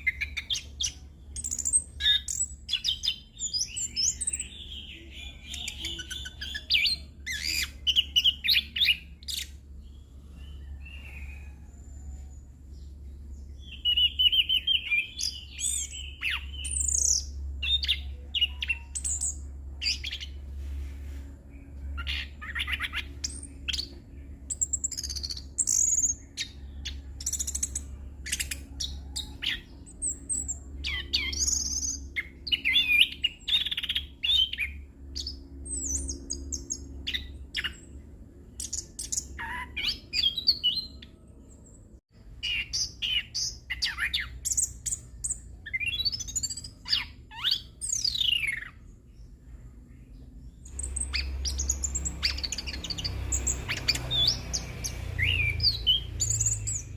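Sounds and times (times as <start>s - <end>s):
thrush singing whistled song: 0.0s - 11.6s, 13.5s - 20.4s, 22.0s - 37.9s, 38.6s - 41.1s, 42.4s - 48.8s, 50.7s - 56.9s.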